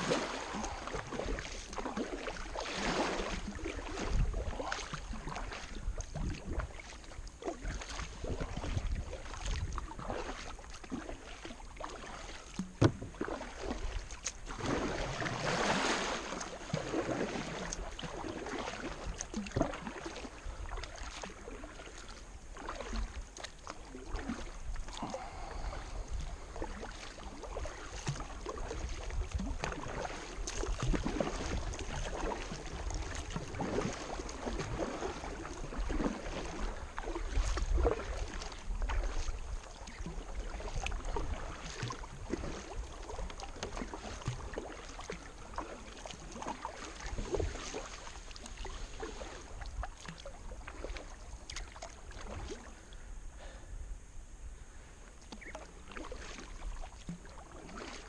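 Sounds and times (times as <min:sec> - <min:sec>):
paddle splashing in water: 0:00.0 - 0:53.7, 0:54.8 - 0:58.0.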